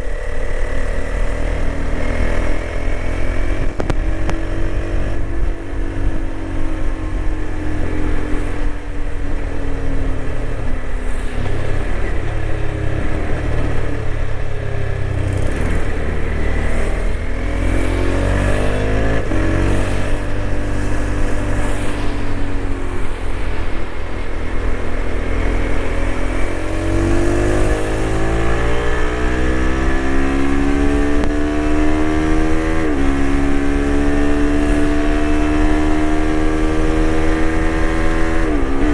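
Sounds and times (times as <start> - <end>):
motorcycle engine: 0.0 - 38.9
wind noise on microphone: 0.9 - 38.9.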